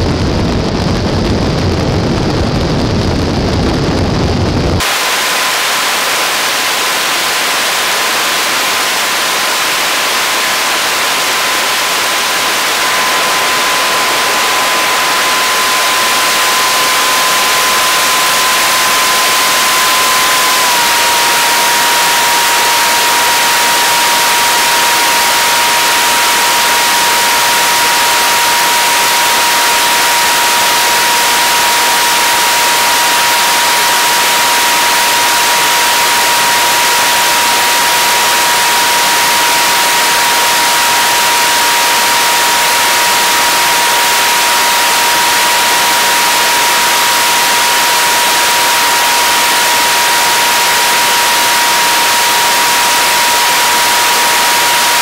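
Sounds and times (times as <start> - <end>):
steady high tone: 4.8 - 55.0.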